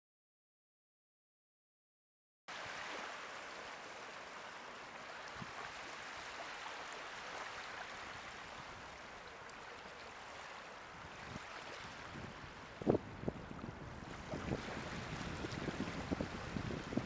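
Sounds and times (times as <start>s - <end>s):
small waves washing: 2.5s - 17.0s.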